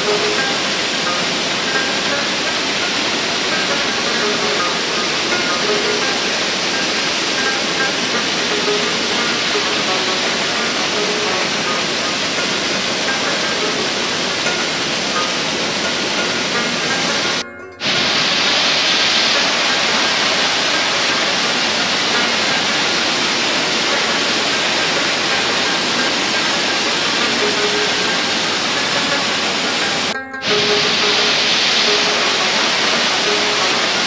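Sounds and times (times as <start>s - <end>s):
faint music: 0.0s - 17.9s, 18.5s - 34.0s
waterfall rushing: 0.0s - 34.0s.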